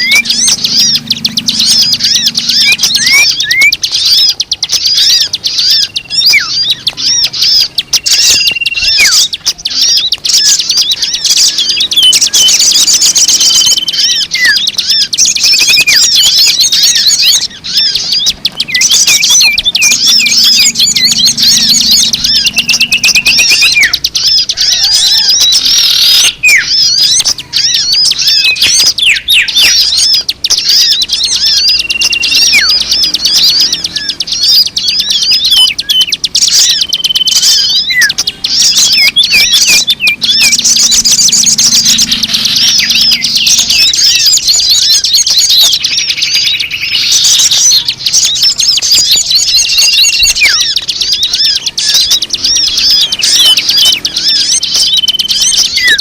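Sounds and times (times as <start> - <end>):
high whistled bird notes: 0.0 - 56.0
small birds chirping: 0.0 - 56.0.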